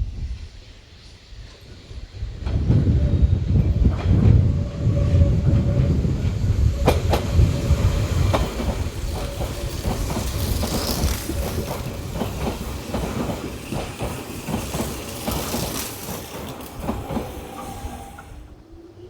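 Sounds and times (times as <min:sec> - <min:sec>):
electric train passing: 0:00.2 - 0:19.0
train wheels clattering over rail joints: 0:01.5 - 0:18.5.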